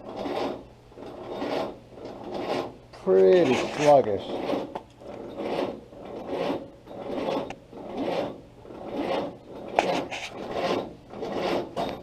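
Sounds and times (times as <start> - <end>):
engine cranking without starting: 0.0 - 12.0.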